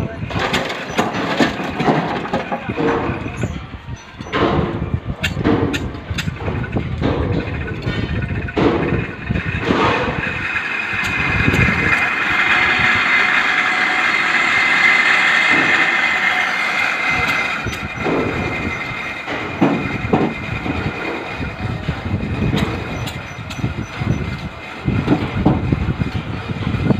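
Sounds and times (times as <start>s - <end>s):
tractor engine winch whine: 0.0s - 26.9s
winch knocking and rattling: 0.2s - 26.8s.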